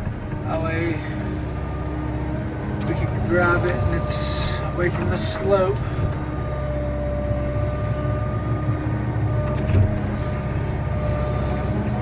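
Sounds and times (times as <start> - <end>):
excavator diesel engine running: 0.0 - 12.0
hydraulic whine: 0.0 - 12.0.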